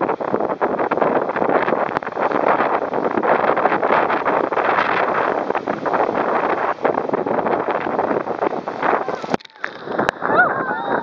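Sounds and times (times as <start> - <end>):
whitewater rapids rushing and splashing: 0.0 - 11.0.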